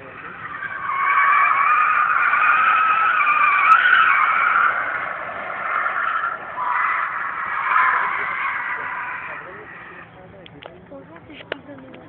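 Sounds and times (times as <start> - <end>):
tyres squealing: 0.0 - 10.1
car engine running: 0.0 - 12.0.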